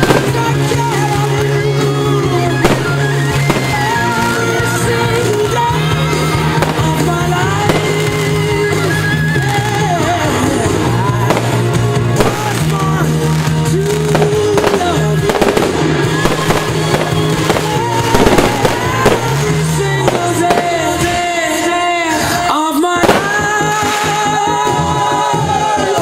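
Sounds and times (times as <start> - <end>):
fireworks bangs and crackles: 0.0 - 26.0
loud song: 0.0 - 26.0.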